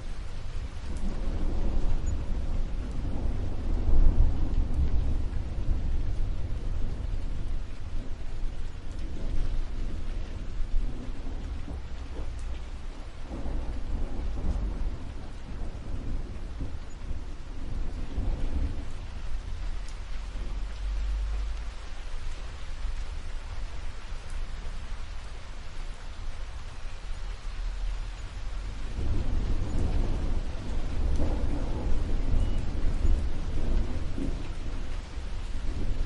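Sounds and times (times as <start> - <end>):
steady rain falling: 0.0 - 36.0
thunder rumbling: 0.0 - 36.0.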